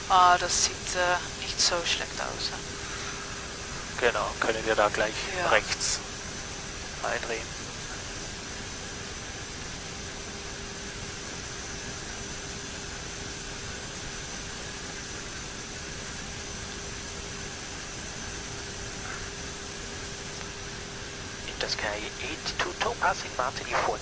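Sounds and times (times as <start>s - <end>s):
aircraft cockpit engine rush: 0.0s - 24.0s
constant low hum: 0.0s - 24.0s
faint high whine: 0.0s - 24.0s.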